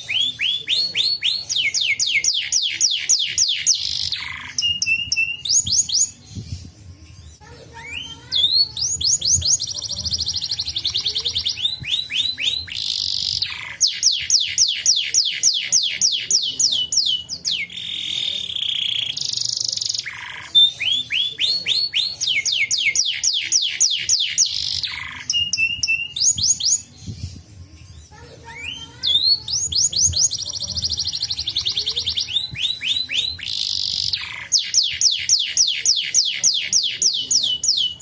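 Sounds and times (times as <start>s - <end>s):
canary singing: 0.0s - 38.0s.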